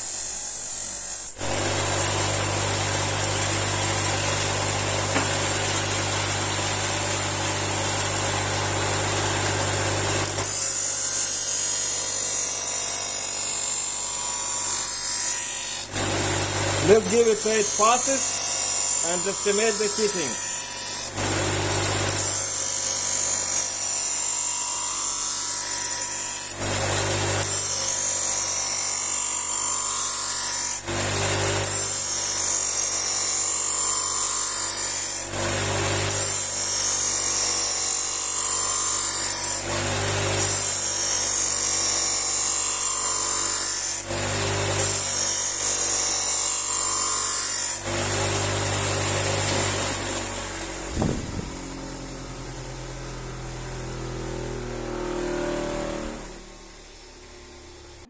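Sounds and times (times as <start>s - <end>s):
bench grinder running: 0.0s - 58.0s.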